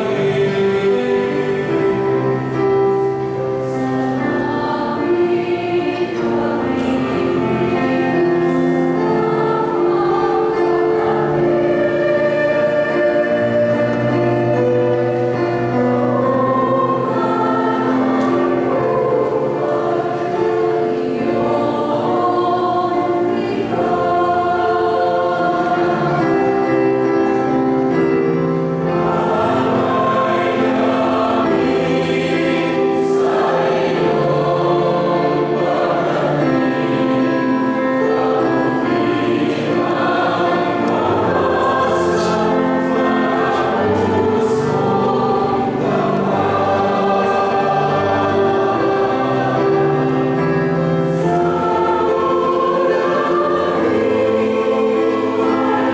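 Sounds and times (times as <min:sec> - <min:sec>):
church choir singing a hymn: 0:00.0 - 0:55.9.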